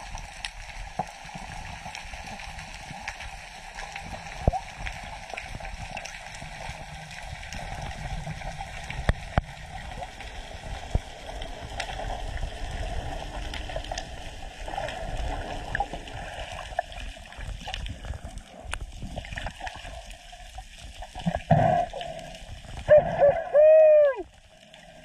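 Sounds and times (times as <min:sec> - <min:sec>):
small clicks underwater: 0:00.0 - 0:22.9
muffled underwater water rushing: 0:00.0 - 0:25.0.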